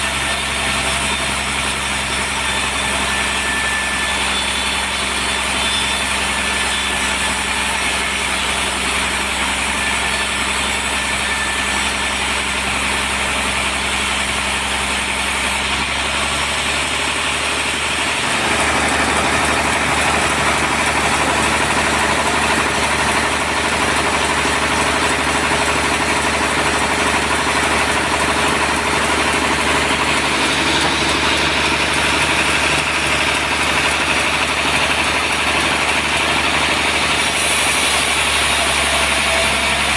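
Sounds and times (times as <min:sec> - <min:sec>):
sawmill machine drone: 0:00.0 - 0:39.9.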